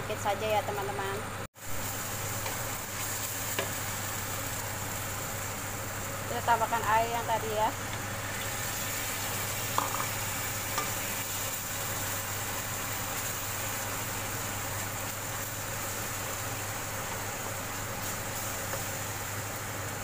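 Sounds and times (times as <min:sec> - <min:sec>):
sauce sizzling in a wok: 0:01.5 - 0:20.0.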